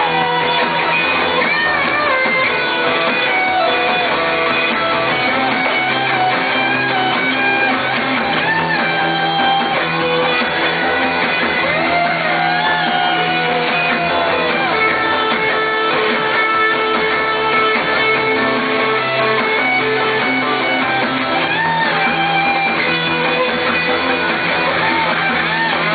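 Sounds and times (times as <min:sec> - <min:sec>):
electric guitar lead: 0:00.0 - 0:25.9
live rock band playing: 0:00.0 - 0:25.9.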